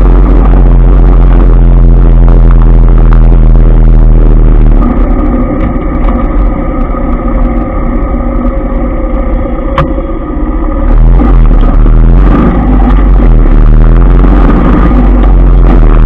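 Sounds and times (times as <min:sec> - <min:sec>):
low traffic rumble: 0:00.0 - 0:16.0
wind rumble on microphone: 0:00.0 - 0:16.0.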